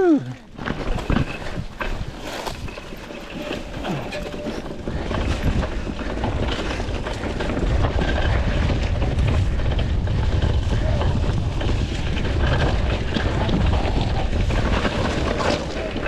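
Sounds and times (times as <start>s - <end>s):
bike tyres on loose ground: 0.0s - 16.0s
wind rumble on microphone: 0.0s - 16.0s
chain and frame rattling: 0.5s - 16.0s.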